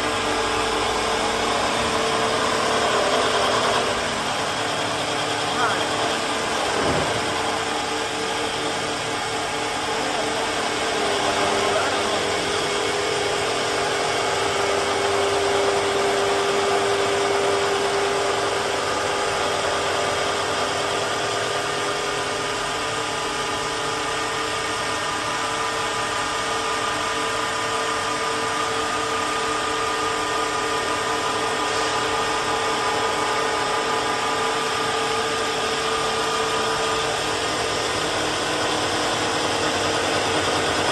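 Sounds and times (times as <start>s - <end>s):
lathe machine whine: 0.0s - 40.9s
noisy machine hum: 0.0s - 40.9s.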